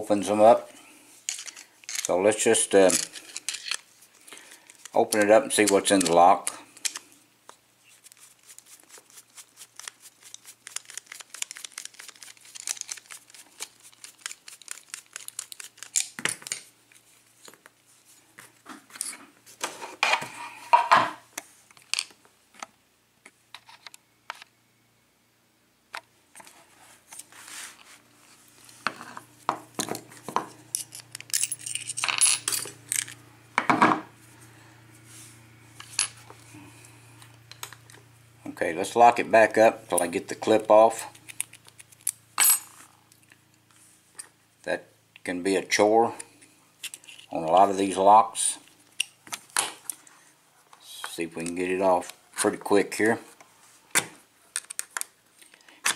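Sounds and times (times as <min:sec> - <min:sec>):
low steady hum: 0:00.0 - 0:53.7.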